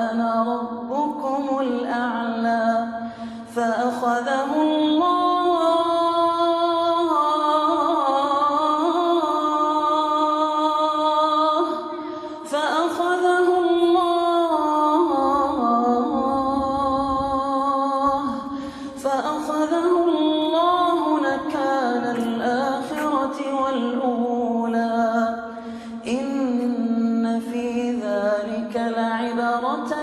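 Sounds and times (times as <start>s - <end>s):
person chanting melodically: 0.0s - 30.0s.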